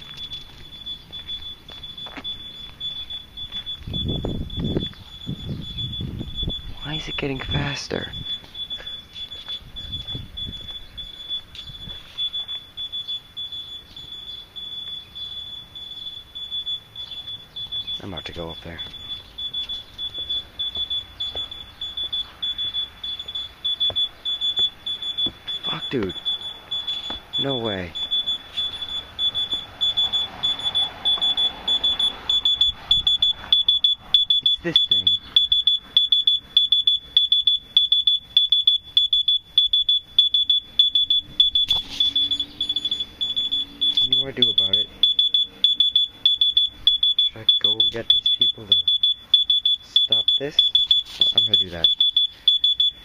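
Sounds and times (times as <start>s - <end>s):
smoke alarm beeping: 0.0s - 53.0s.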